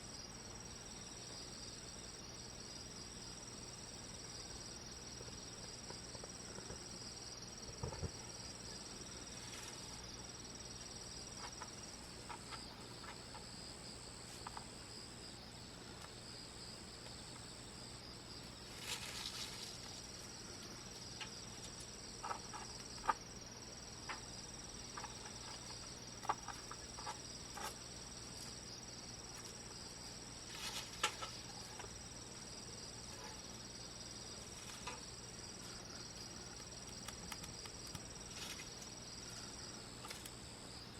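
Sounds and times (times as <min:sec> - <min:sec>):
crickets singing: 0:00.0 - 0:40.9.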